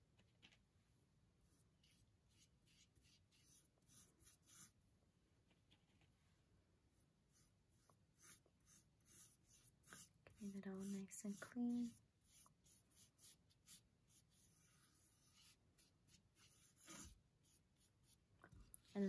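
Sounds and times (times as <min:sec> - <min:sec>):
paintbrush brushing on canvas: 0:01.5 - 0:04.8, 0:07.0 - 0:19.0.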